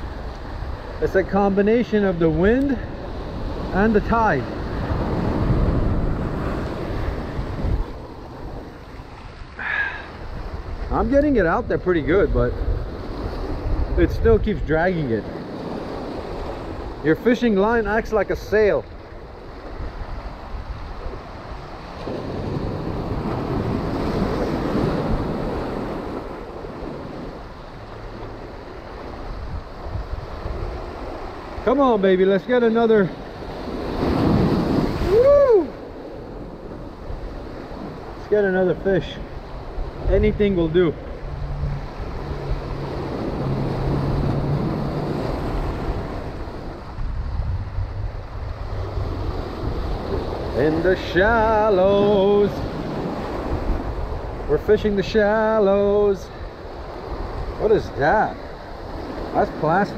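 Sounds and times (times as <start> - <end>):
wind buffeting microphone: 0.0 - 32.0, 33.1 - 55.0
surf washing over rocks: 0.0 - 59.9.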